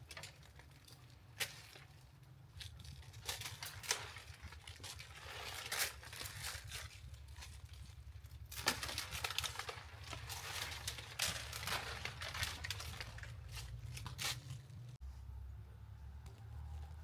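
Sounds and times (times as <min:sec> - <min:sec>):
rustling and crinkling handling: 0:00.0 - 0:15.2.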